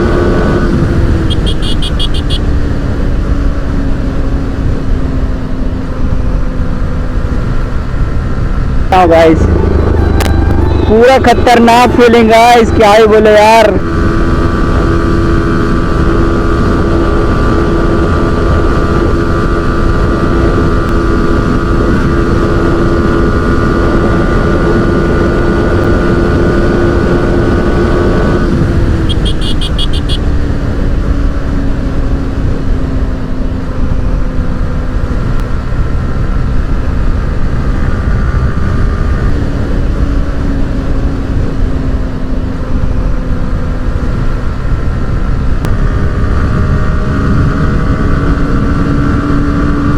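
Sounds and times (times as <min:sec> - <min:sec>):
loud wind rush: 0:00.0 - 0:32.4, 0:33.7 - 0:49.9
motorcycle engine cruising: 0:00.0 - 0:49.9.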